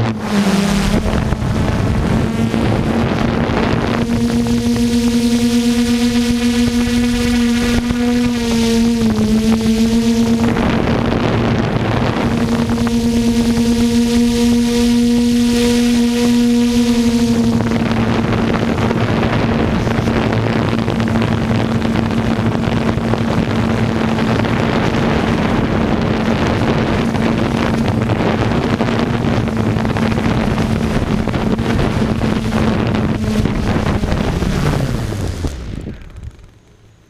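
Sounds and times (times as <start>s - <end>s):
drone propellers buzzing: 0.0s - 37.0s
wind noise on microphone: 0.0s - 37.0s.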